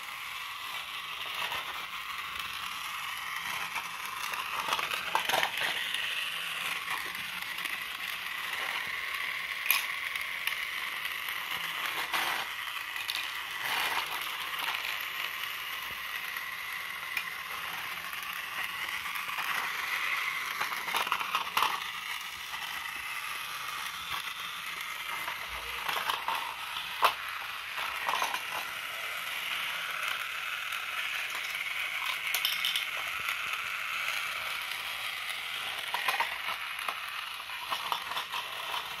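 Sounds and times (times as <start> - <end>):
toy train motor whine: 0.0 - 39.0.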